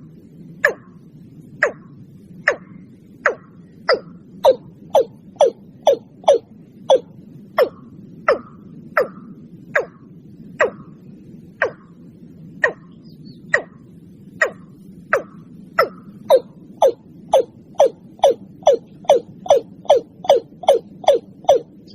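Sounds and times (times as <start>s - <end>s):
faint low hum: 0.0s - 21.9s.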